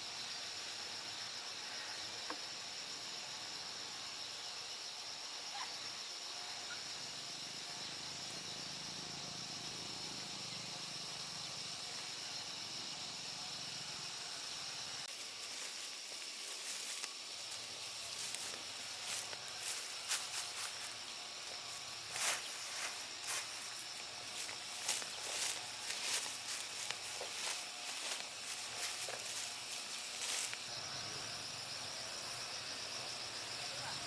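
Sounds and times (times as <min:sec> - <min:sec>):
high-pitched outdoor hiss: 0:00.0 - 0:34.0.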